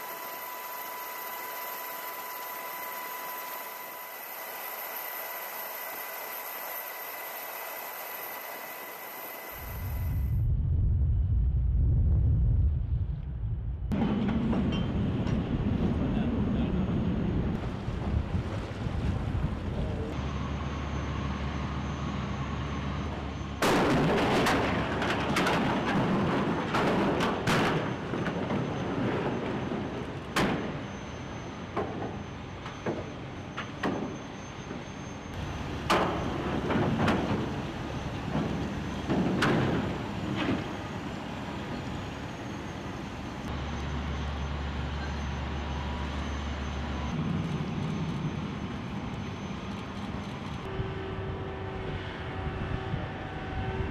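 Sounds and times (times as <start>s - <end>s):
engine drone: 0.0s - 53.9s.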